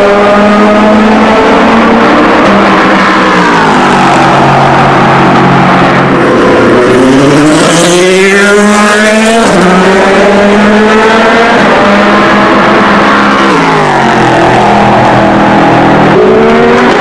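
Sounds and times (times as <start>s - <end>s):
race car accelerating: 0.0s - 17.0s.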